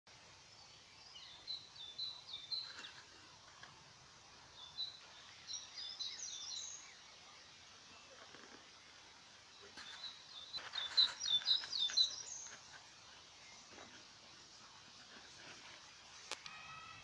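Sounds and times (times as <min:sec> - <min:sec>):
faint steady hiss: 0:00.1 - 0:17.0
small birds chirping: 0:00.1 - 0:17.0.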